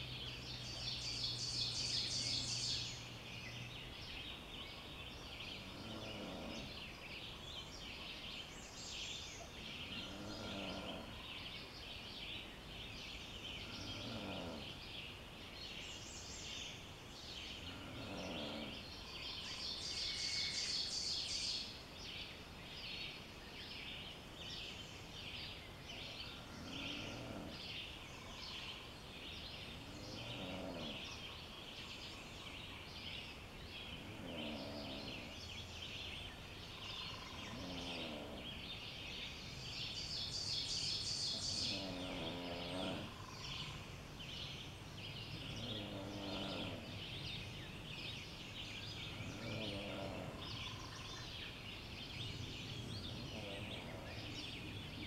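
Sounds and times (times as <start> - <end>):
many birds chirping: 0.0 - 55.0.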